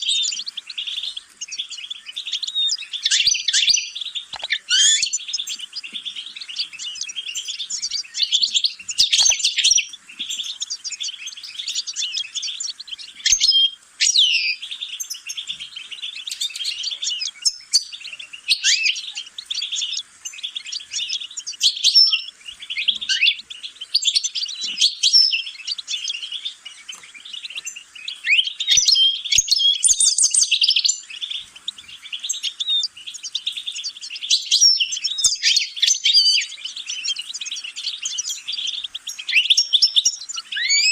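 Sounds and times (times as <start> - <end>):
songbird twittering song: 0.0 - 40.9.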